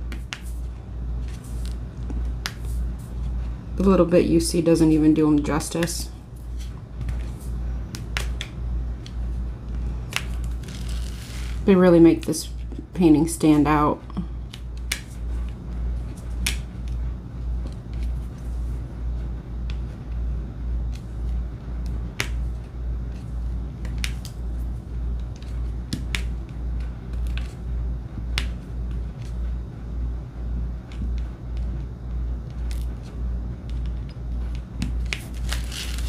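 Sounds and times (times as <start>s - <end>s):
pulsing low hum: 0.0s - 13.0s, 13.6s - 36.0s.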